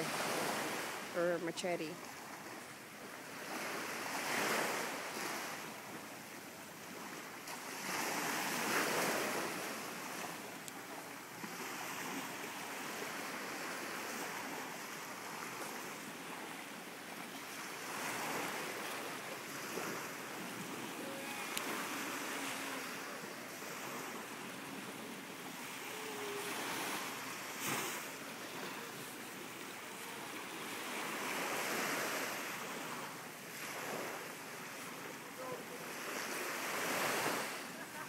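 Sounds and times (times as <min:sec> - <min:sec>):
waves washing onto beach: 0:00.0 - 0:38.0.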